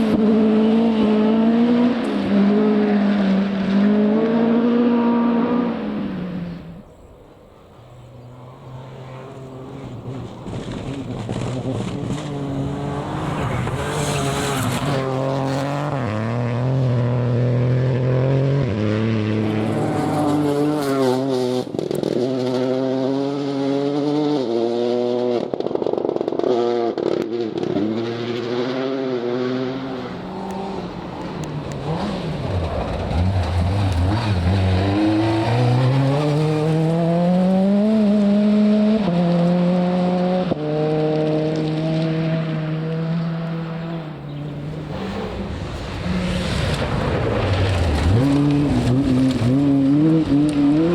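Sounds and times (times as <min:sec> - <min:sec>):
rally car engine revving: 0:00.0 - 0:06.8, 0:08.2 - 0:50.9.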